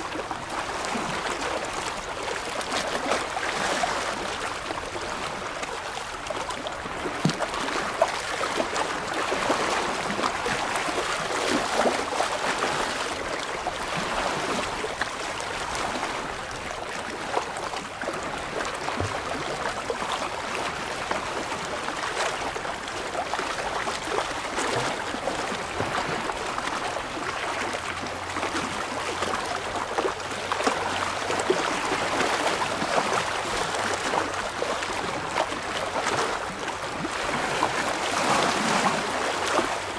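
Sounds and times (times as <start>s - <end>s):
waves lapping against rocks: 0.0s - 39.9s.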